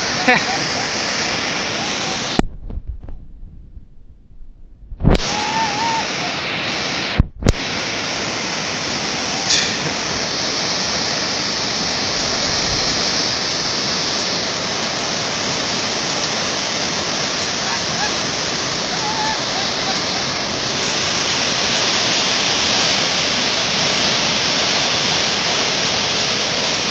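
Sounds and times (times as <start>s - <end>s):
flood water rushing: 0.0s - 2.5s, 5.0s - 26.9s.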